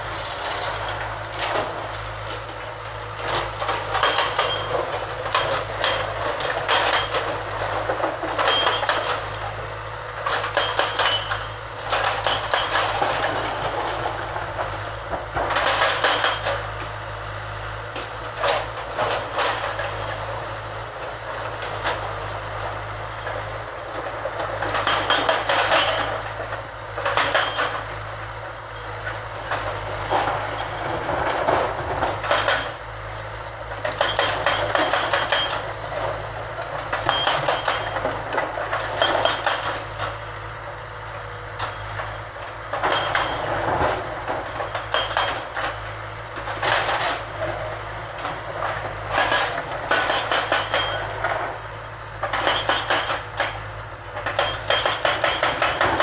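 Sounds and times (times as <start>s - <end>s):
hydraulic breaker hammering rock: 0.0s - 40.5s, 41.6s - 56.0s
excavator engine running: 0.0s - 56.0s.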